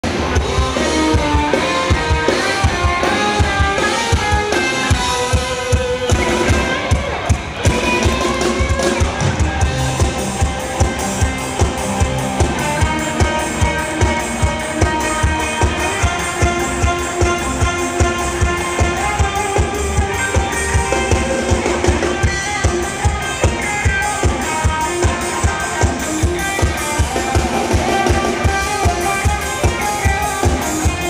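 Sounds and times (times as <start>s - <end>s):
bass: 0.0s - 31.0s
drum kit beat: 0.0s - 31.0s
electric guitars: 0.0s - 31.0s
keyboard: 0.0s - 31.0s.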